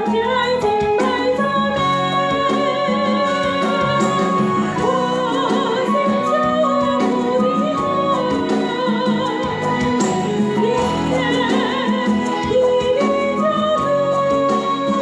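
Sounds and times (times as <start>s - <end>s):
instrumental accompaniment: 0.0s - 15.0s
person singing with vibrato: 0.0s - 15.0s.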